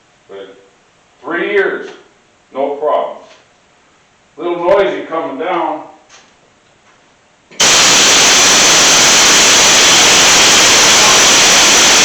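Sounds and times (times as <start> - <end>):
loud white-noise hiss: 0.0 - 6.4, 7.1 - 12.0.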